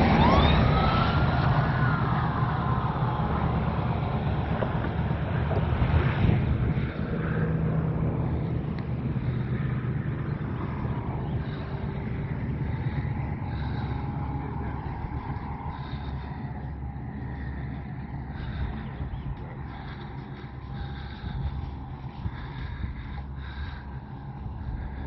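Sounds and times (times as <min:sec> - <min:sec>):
engine droning: 0:00.0 - 0:25.0
wind-like noise: 0:00.0 - 0:25.0.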